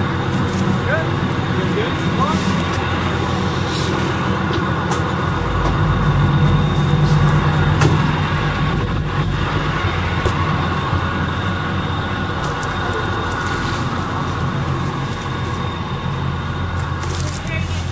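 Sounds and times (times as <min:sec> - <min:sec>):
heavy machinery engine droning: 0:00.0 - 0:17.9.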